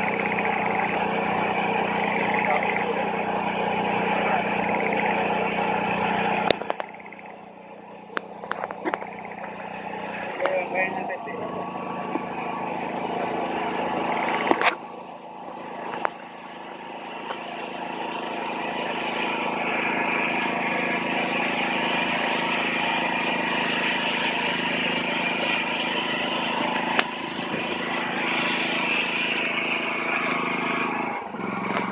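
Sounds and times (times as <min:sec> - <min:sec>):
engine running steadily: 0:00.0 - 0:31.9.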